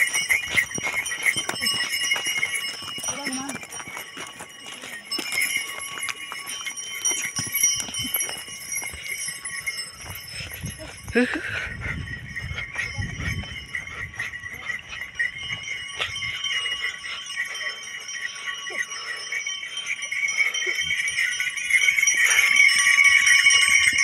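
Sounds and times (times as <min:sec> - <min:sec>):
harness bells jingling: 0:00.0 - 0:24.0
hooves on grass: 0:00.0 - 0:24.0.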